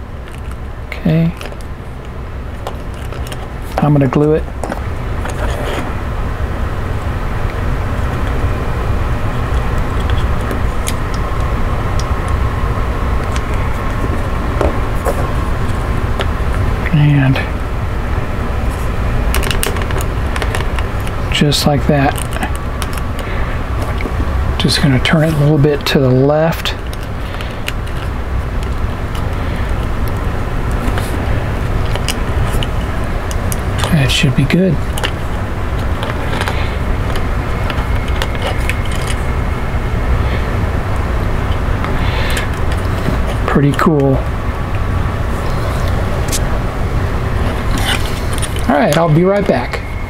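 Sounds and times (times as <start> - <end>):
low rumbling background noise: 0.0 - 50.0.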